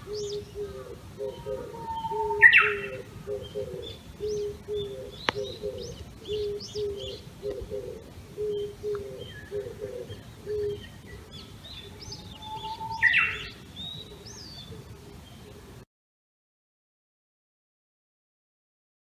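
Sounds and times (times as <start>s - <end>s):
bush warbler singing: 0.0s - 15.8s
low bird call: 0.0s - 15.8s
small birds chirping: 0.0s - 15.8s.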